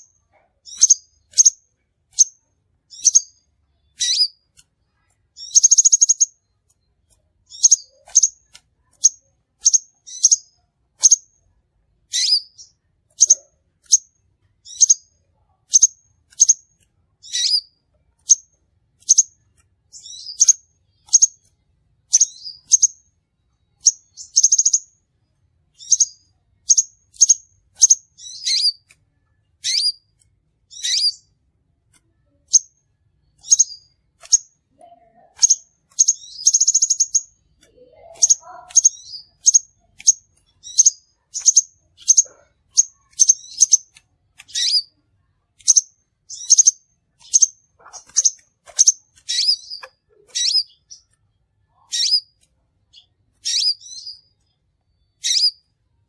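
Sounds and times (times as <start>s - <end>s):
buzzy bird trills: 0.0s - 6.6s, 7.5s - 11.3s, 12.1s - 15.1s, 15.7s - 21.5s, 22.1s - 23.0s, 25.8s - 28.9s, 29.6s - 30.1s, 30.7s - 31.3s, 32.2s - 45.0s, 45.6s - 55.7s
bird chirping high-pitched: 0.0s - 25.1s, 25.7s - 31.4s, 32.1s - 45.0s, 45.6s - 55.8s.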